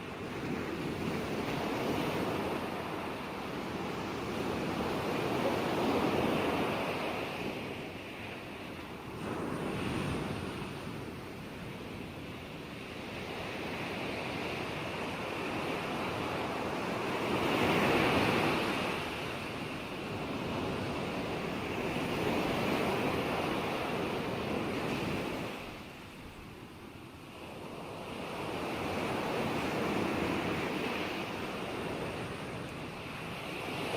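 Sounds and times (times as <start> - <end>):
waves breaking: 0.0 - 26.6, 27.4 - 33.9.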